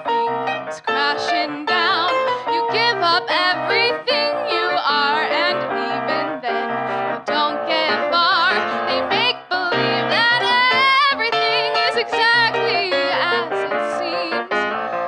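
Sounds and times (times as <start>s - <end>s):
piano accompaniment: 0.0s - 15.0s
woman singing soul ballad: 0.8s - 14.6s.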